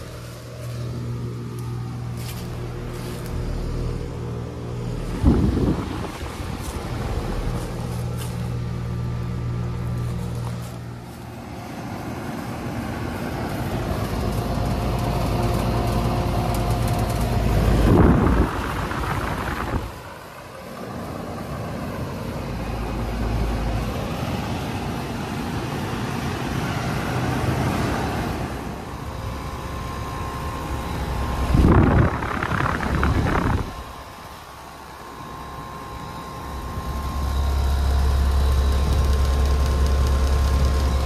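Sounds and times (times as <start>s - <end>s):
air conditioner compressor hum: 0.0s - 41.0s
condenser fan rushing: 0.0s - 41.0s.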